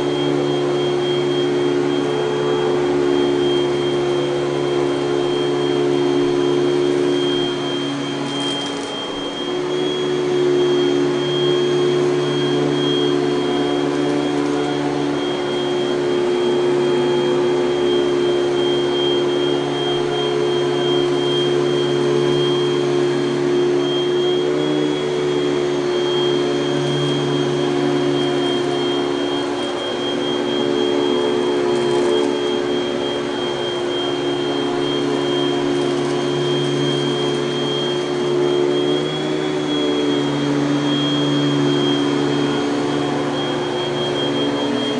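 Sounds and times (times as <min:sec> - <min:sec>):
upright vacuum cleaner running: 0:00.0 - 0:44.9.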